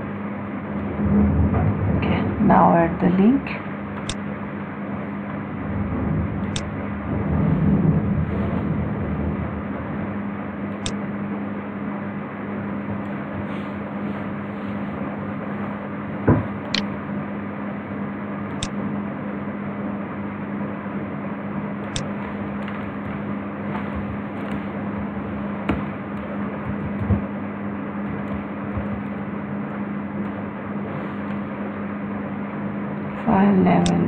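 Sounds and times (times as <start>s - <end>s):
background hum and hiss: 0.0s - 34.0s.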